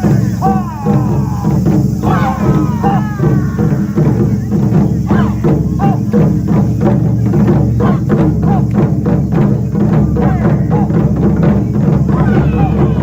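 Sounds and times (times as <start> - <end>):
taiko drums beating rapidly: 0.0 - 13.0.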